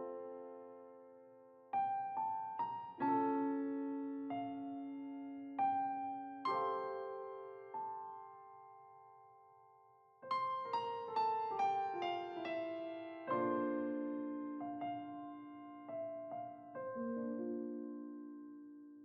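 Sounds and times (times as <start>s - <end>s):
piano music: 0.0s - 9.6s, 10.2s - 19.0s.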